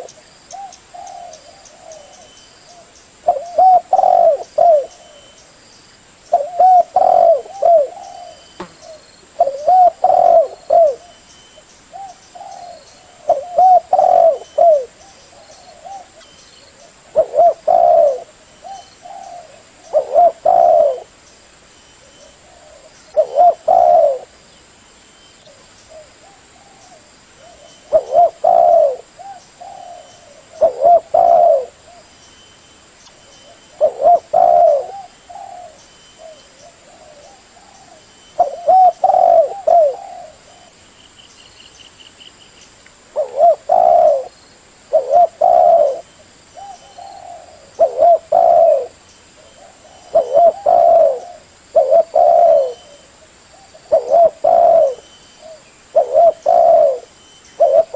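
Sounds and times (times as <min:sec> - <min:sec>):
dove cooing: 0:00.0 - 0:05.4, 0:06.3 - 0:11.2, 0:11.9 - 0:21.2, 0:22.0 - 0:24.4, 0:25.5 - 0:32.1, 0:33.4 - 0:40.8, 0:43.1 - 0:44.3, 0:44.9 - 0:57.9.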